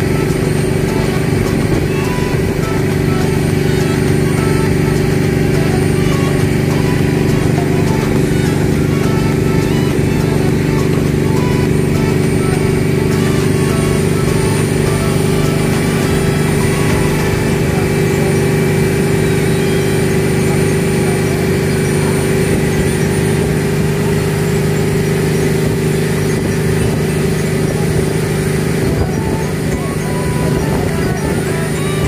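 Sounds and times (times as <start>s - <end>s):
motorboat engine drone: 0.0s - 32.0s
rushing water and wind: 0.0s - 32.0s.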